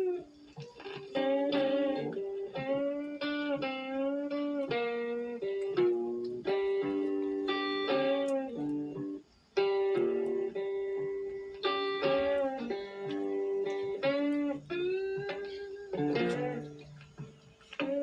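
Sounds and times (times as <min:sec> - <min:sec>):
guitar playing bent notes: 0:00.0 - 0:18.0.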